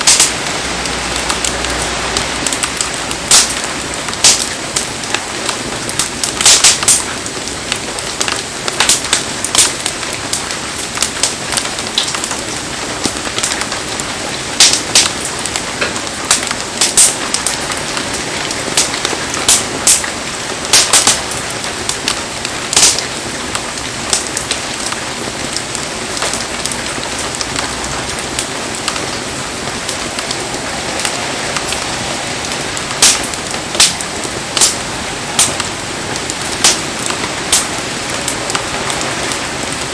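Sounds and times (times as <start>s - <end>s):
campfire crackling pops: 0.0s - 39.9s
heavy rain hissing: 0.0s - 39.9s.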